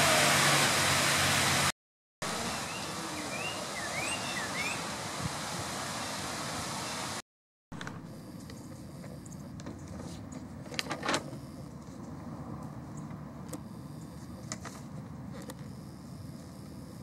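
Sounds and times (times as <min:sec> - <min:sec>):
distant road traffic rumble: 0:00.0 - 0:07.2, 0:07.8 - 0:17.0.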